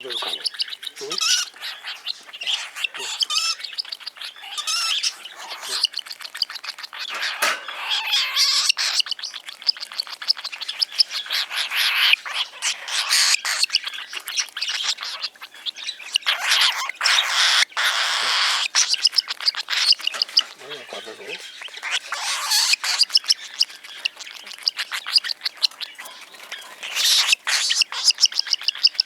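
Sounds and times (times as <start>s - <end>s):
cockatiel chirping: 0.0s - 29.0s.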